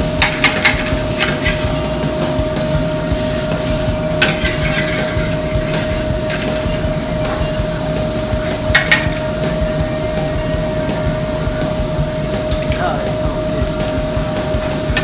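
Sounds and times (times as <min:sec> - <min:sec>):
exhaust hood rumble and hum: 0:00.0 - 0:15.0.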